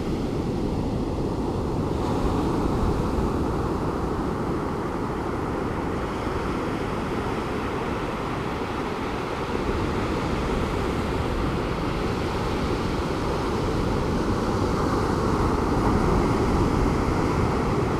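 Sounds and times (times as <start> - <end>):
surf breaking on a beach: 0.0 - 17.9.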